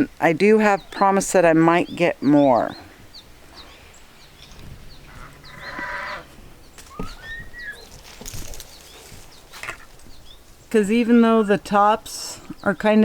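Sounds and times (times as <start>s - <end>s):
chickens calling: 0.0s - 13.0s
small birds chirping: 0.0s - 13.0s.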